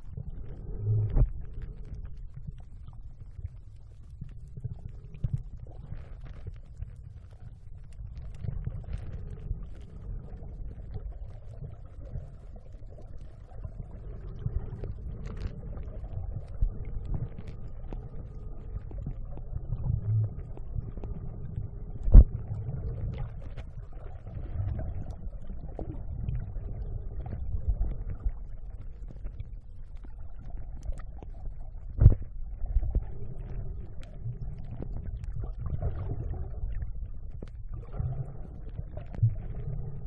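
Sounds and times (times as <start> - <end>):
faint steady whine: 0.0 - 40.0
muffled underwater rumble: 0.0 - 40.0.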